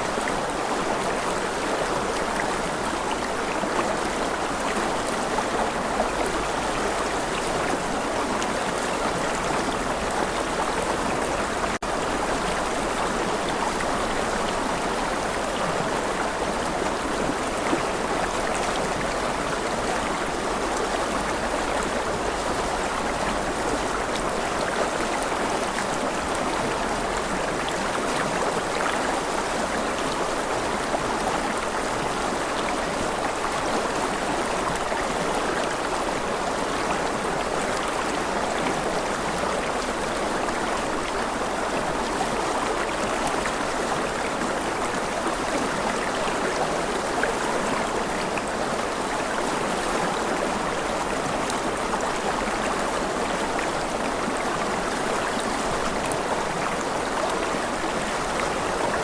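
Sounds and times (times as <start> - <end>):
flowing stream rushing: 0.0 - 59.0.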